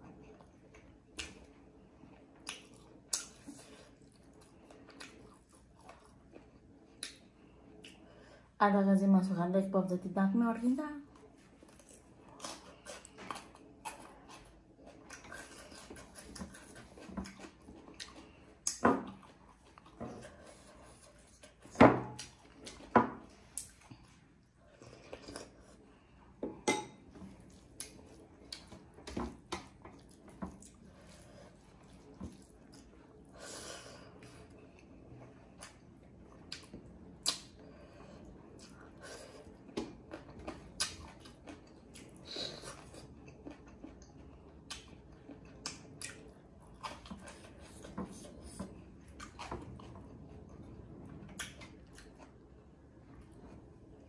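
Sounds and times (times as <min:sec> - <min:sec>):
chewing: 0:00.0 - 0:08.2, 0:11.1 - 0:26.1, 0:27.1 - 0:54.0.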